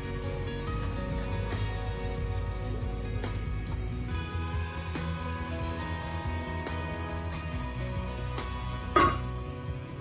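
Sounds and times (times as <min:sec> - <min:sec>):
instrumental music with bass: 0:00.0 - 0:10.0.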